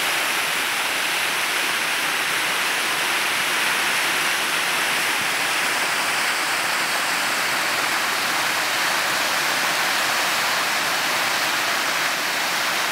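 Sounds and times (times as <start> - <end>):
river rushing over rapids: 0.0 - 12.9.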